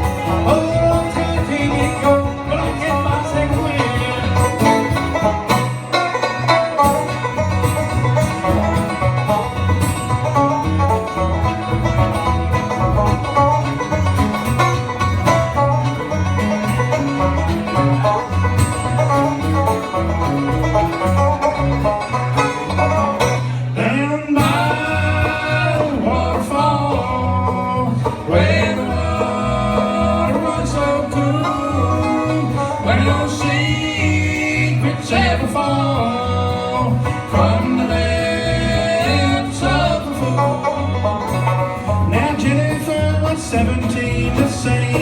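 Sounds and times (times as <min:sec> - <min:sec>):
picked string melody: 0:00.0 - 0:45.0
rhythmic bass line: 0:00.0 - 0:45.0.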